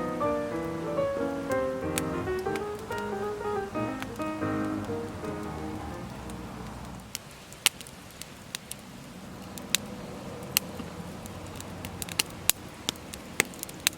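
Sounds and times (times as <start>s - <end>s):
wood fire crackling: 0.0s - 13.9s.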